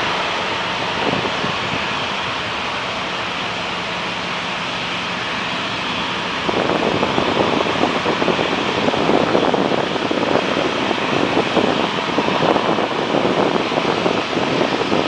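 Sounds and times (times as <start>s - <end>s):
jet engines rushing: 0.0s - 15.0s
wind buffeting microphone: 0.0s - 15.0s.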